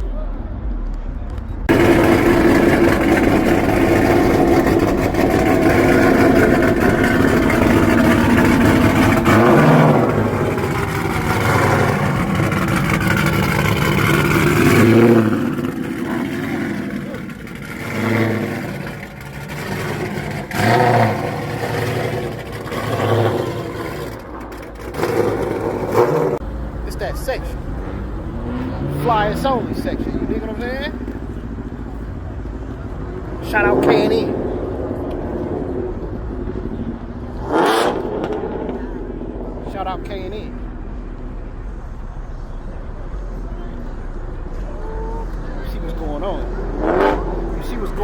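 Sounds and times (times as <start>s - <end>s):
car engine revving: 0.0s - 48.0s
voices: 0.0s - 48.0s.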